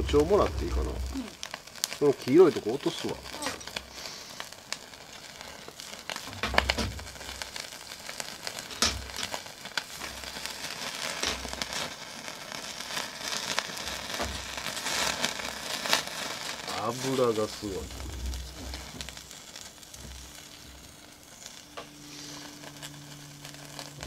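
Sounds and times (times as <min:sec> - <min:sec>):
steady crackle: 0:00.0 - 0:24.0.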